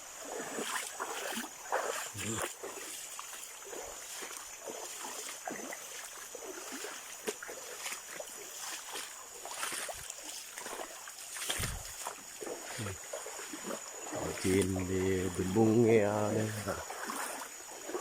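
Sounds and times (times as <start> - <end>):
water splashing and trickling: 0.0 - 18.0.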